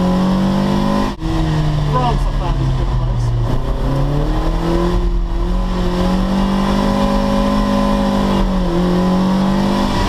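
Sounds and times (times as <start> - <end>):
car engine at high revs: 0.0 - 10.0.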